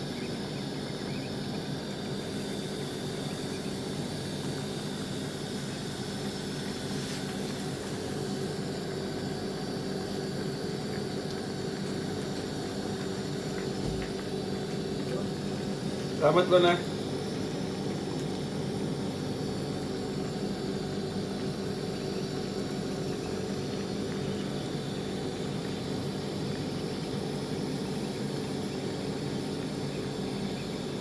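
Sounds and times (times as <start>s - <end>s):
food bubbling in frying pan: 0.0s - 31.0s
low even hum: 0.0s - 31.0s.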